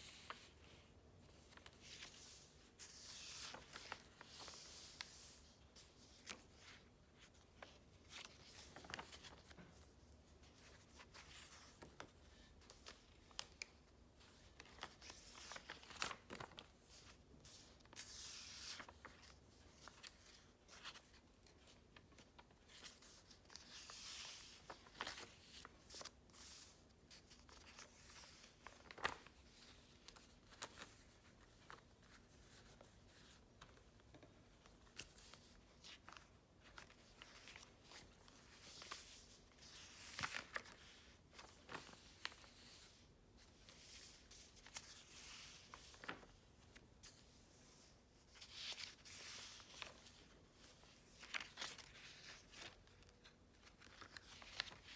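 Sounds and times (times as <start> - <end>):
paper pages turning: 1.2 - 54.9.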